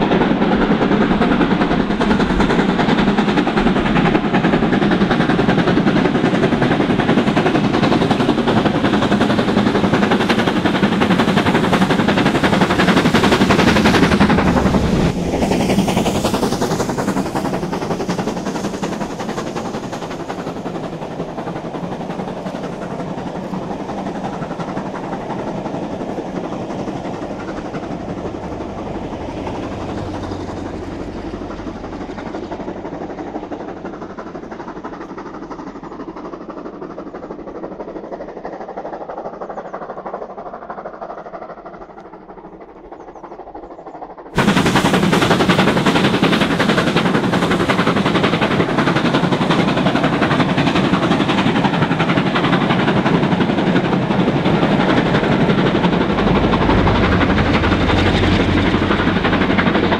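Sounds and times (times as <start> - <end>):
steam locomotive exhaust beat: 0.0 - 59.9
train coaches rumbling past: 0.0 - 59.9.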